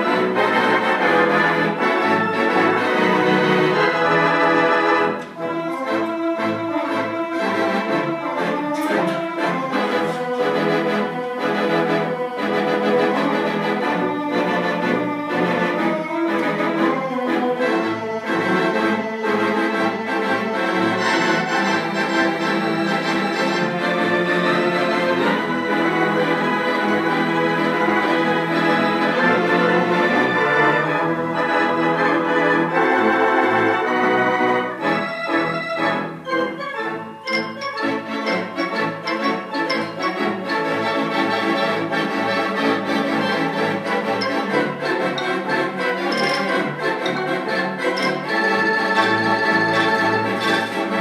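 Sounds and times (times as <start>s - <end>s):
theatre pipe organ playing: 0.0s - 51.0s.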